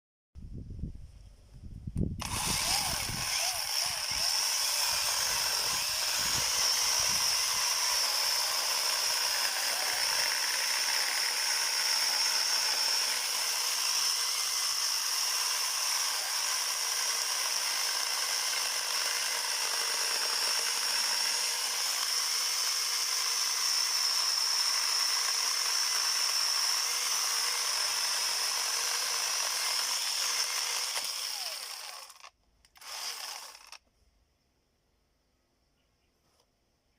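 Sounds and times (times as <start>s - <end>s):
power tool chainsaw whining: 2.2s - 33.8s.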